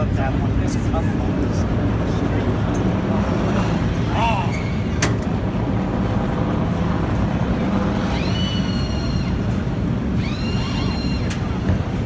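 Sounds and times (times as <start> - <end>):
race car engines rumbling: 0.0 - 12.0.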